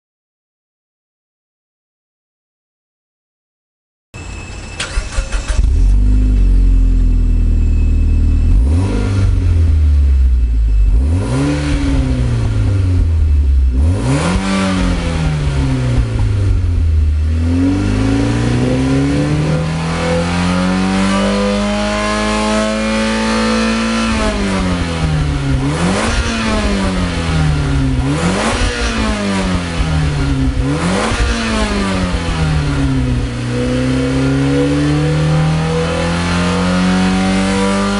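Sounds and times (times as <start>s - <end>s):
car engine revving: 4.8s - 37.9s.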